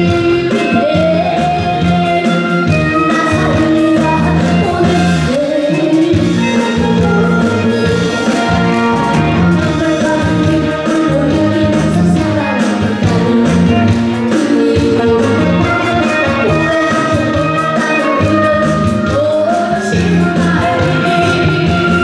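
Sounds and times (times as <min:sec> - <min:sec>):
boy singing into microphone: 0:00.0 - 0:08.6, 0:09.3 - 0:22.0
instrumental accompaniment: 0:00.0 - 0:22.0.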